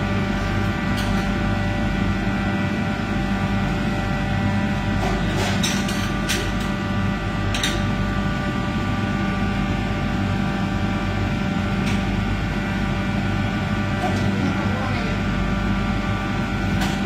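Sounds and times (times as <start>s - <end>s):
kitchen ventilation fans drone: 0.0s - 17.0s.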